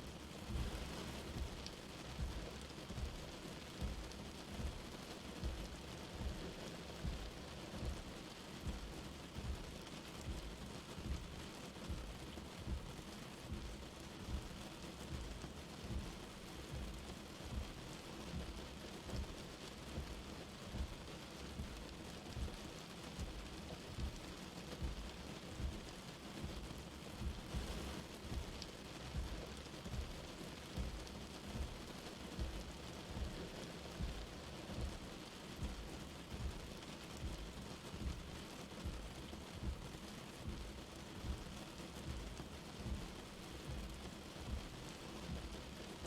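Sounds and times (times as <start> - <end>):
light rain falling: 0.0 - 46.0
soft low thuds: 0.5 - 19.4, 23.2 - 45.6.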